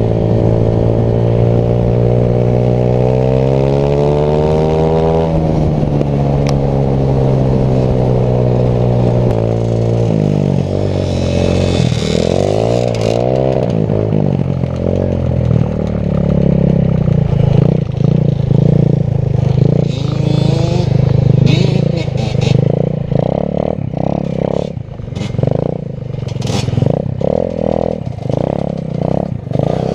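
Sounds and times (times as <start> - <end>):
small quad engine revving: 0.0 - 29.9.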